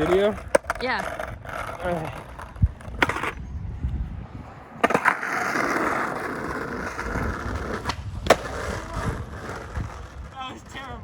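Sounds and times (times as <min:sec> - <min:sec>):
skateboard clacking: 0:00.0 - 0:03.4, 0:04.8 - 0:10.9
skateboard wheels rolling on pavement: 0:00.0 - 0:11.0.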